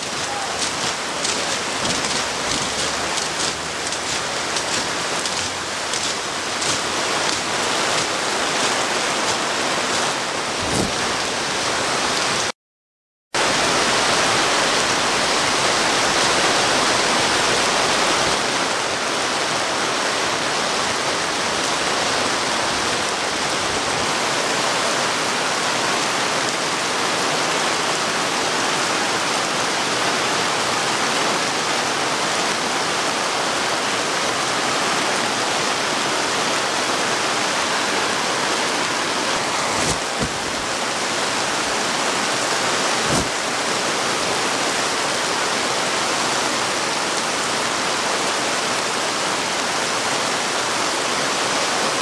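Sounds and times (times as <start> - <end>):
heavy rain pouring: 0.0 - 12.5, 13.4 - 52.0.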